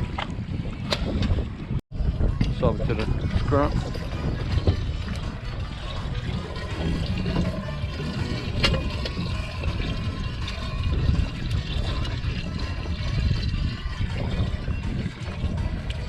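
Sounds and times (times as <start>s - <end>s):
low rumble: 0.0s - 16.0s
water splashing and trickling: 0.0s - 16.0s.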